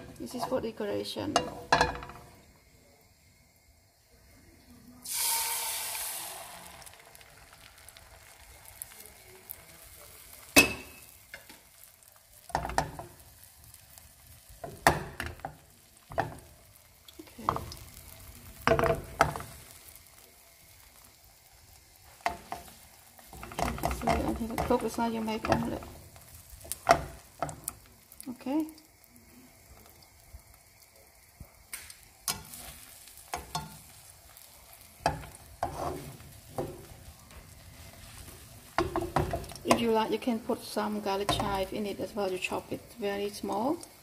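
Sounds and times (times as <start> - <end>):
egg sizzling in hot oil: 0.0 - 44.0.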